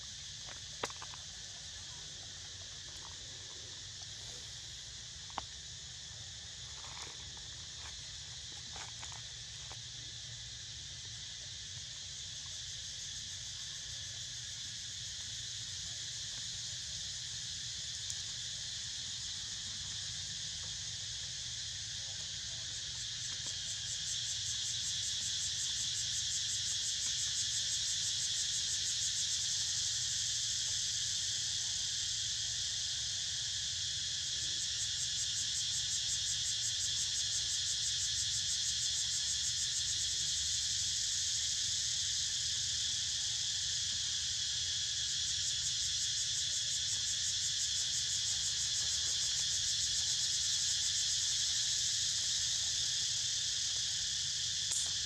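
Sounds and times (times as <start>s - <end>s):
insect chorus buzzing: 0.0s - 55.0s.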